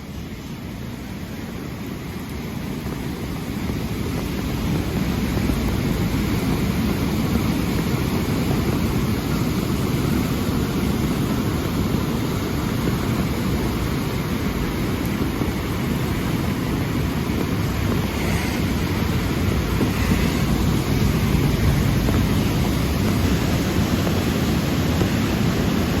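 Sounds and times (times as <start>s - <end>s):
river rushing: 0.0s - 26.0s.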